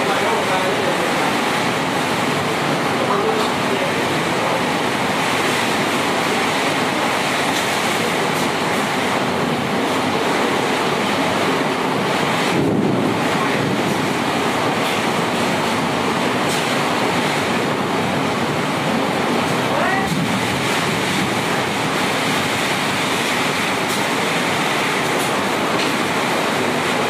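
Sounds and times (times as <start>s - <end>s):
heavy rain pouring: 0.0s - 27.0s
strong wind: 0.0s - 27.0s.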